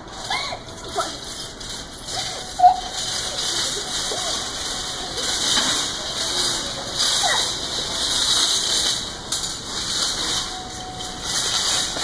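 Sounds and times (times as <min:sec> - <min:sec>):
shopping cart rattling: 0:00.0 - 0:12.0.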